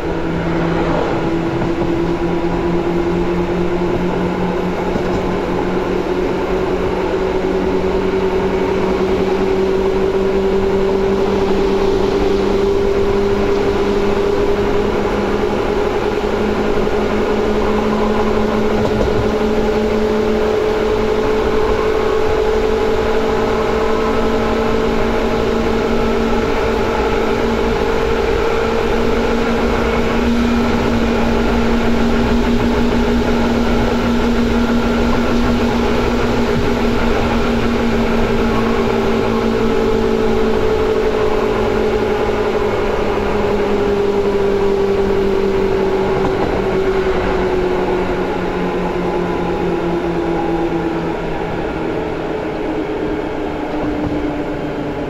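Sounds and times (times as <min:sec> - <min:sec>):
train motor whine: 0:00.0 - 0:11.4, 0:13.0 - 0:55.0
wheels rumbling on rail: 0:00.0 - 0:55.0.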